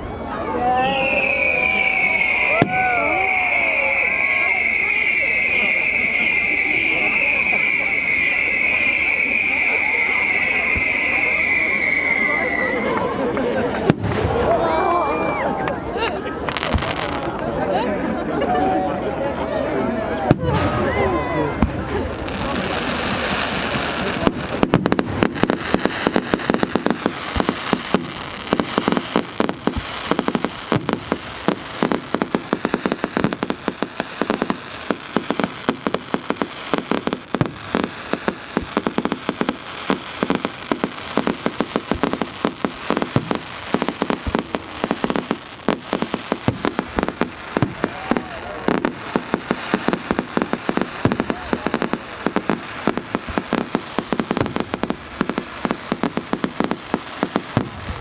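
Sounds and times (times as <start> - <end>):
fireworks crackling and banging: 0.0 - 18.3, 20.1 - 58.0.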